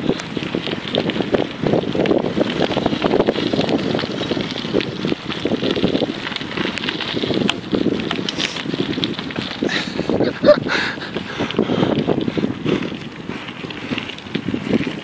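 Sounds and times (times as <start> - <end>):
bike clicks and rattles: 0.0 - 15.0
bike tyres rolling over gravel: 0.0 - 15.0
wind buffeting microphone: 0.0 - 15.0.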